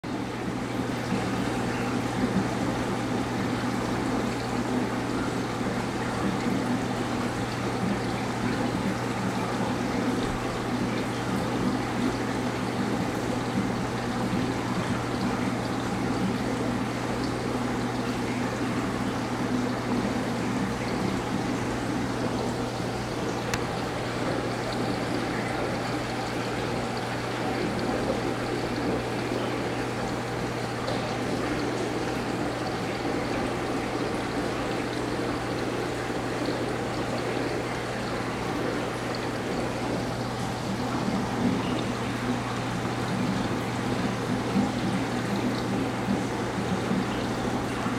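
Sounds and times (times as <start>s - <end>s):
low pump hum: 0.0s - 47.9s
water trickling and flowing: 0.0s - 47.9s.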